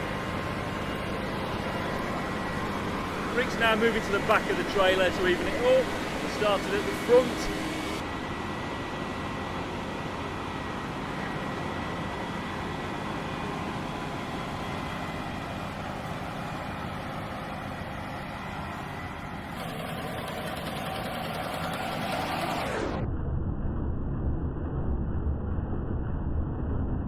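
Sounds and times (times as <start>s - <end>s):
combine harvester running: 0.0s - 22.9s.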